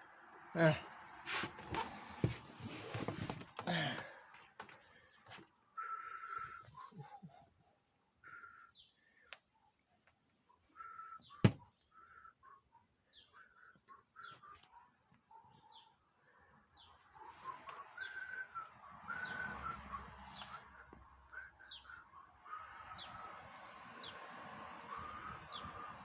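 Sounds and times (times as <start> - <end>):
small birds chirping: 1.7 - 26.0.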